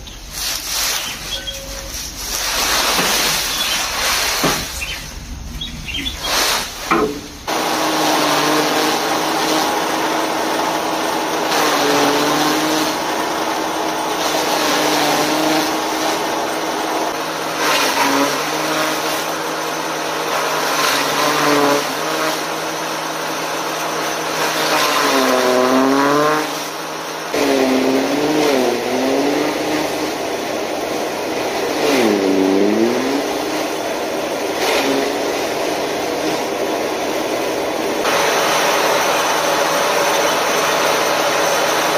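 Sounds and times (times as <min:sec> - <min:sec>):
chaff cutter humming: 0:00.0 - 0:41.9
grass being shredded: 0:00.0 - 0:41.9.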